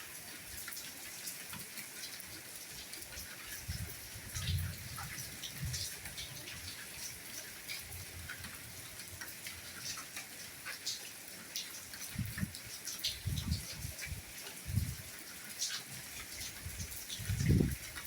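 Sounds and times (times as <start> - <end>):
soft rainfall: 0.0 - 18.0
raindrops ticking: 2.8 - 18.0.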